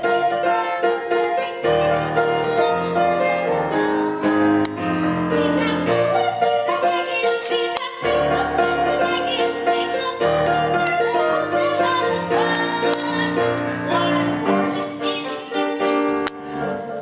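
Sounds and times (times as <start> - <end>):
instrumental accompaniment: 0.0 - 17.0
voices singing: 0.0 - 17.0.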